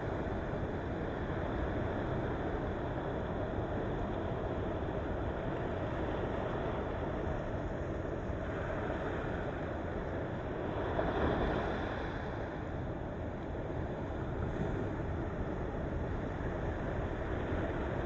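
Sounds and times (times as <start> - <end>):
sea waves washing on coast: 0.0 - 18.0.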